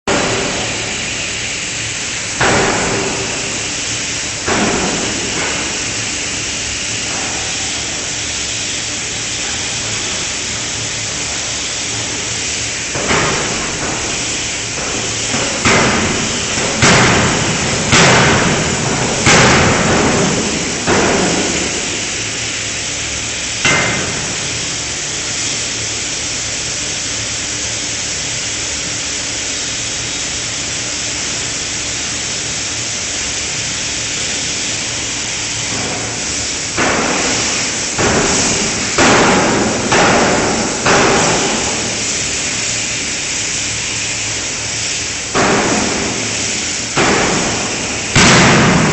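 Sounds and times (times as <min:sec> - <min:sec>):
loud steady hiss: 0:00.0 - 0:48.9.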